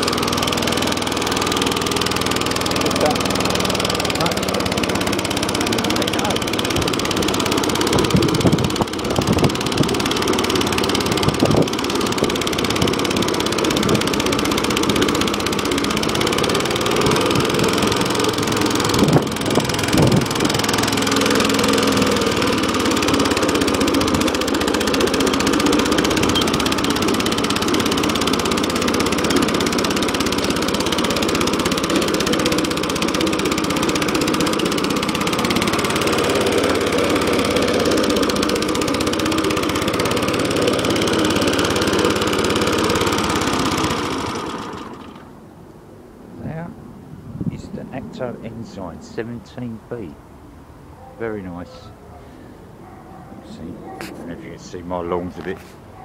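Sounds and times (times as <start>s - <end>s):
lawn mower engine running: 0.0s - 46.9s, 52.3s - 56.0s.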